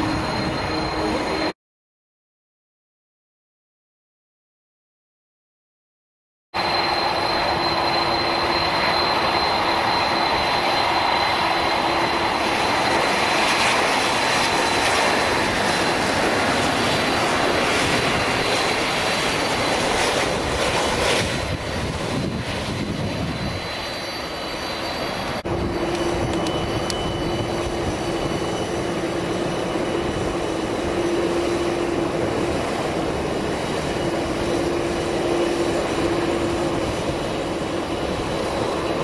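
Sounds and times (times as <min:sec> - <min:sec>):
jet engines rushing with high whine: 0:00.0 - 0:01.6, 0:06.6 - 0:39.0.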